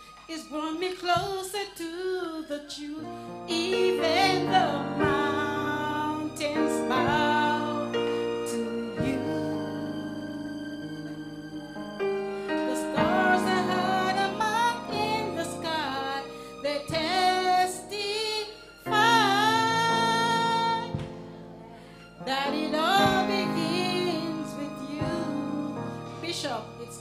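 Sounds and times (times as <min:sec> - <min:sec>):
woman singing gospel song: 0:00.2 - 0:11.8, 0:12.4 - 0:21.1, 0:22.2 - 0:27.0
sustained keyboard chords: 0:03.1 - 0:27.0.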